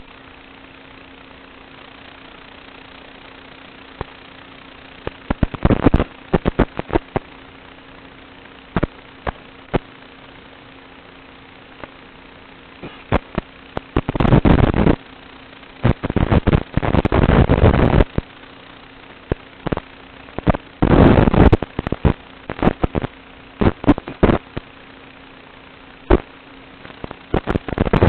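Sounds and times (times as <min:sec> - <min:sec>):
drone motor humming: 0:00.0 - 0:24.7
harsh crackling noise bursts: 0:00.0 - 0:28.0.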